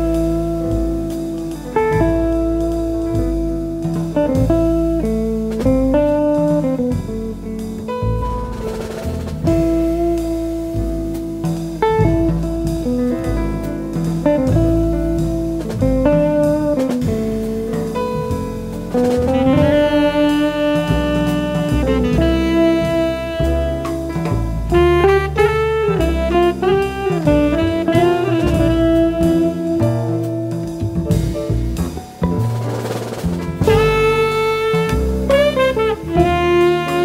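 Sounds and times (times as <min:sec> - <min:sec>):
drum kit with cymbals: 0:00.0 - 0:37.0
jazz melody of held notes: 0:00.0 - 0:37.0
walking bass line: 0:00.0 - 0:37.0.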